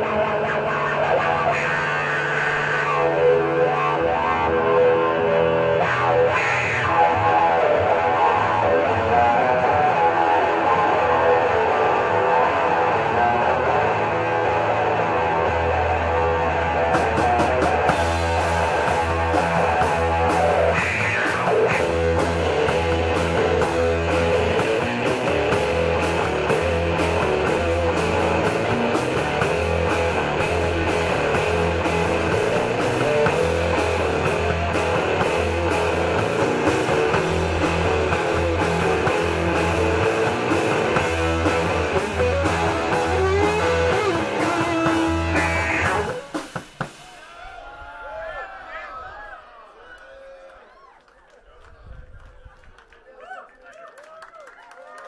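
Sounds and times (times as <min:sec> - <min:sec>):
live rock band playing: 0:00.0 - 0:47.3.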